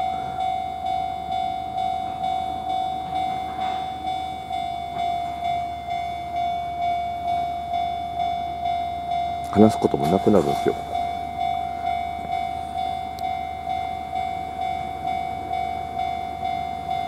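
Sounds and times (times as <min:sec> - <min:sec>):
level crossing bell ringing: 0:00.0 - 0:17.0.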